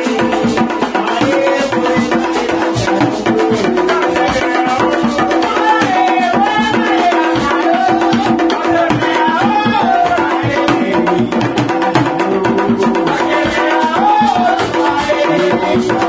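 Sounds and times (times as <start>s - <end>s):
hand drums beating: 0.0s - 16.0s
person chanting into a microphone: 0.0s - 16.0s.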